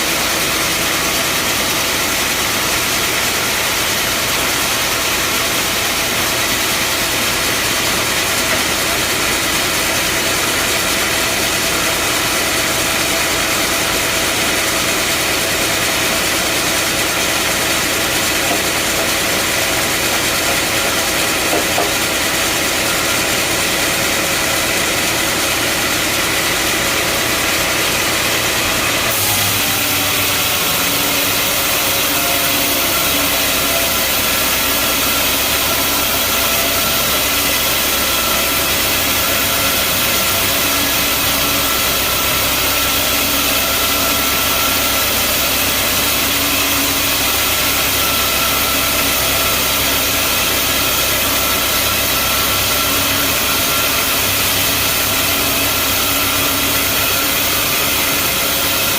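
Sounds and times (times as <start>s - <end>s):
band sawmill drone: 0.0s - 58.9s.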